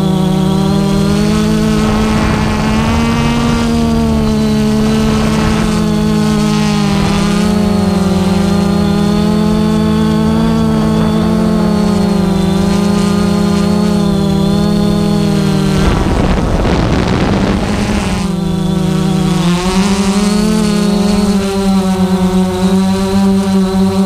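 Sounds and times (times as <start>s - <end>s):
wind gusts on microphone: 0.0s - 23.8s
drone propellers whining: 0.0s - 24.0s.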